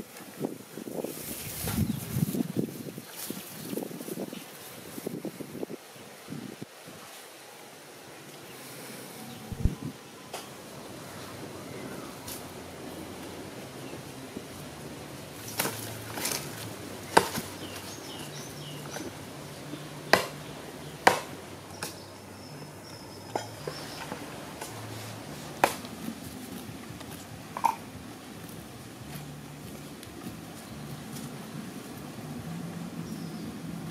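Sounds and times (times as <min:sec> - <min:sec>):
low background noise: 0:00.0 - 0:33.9.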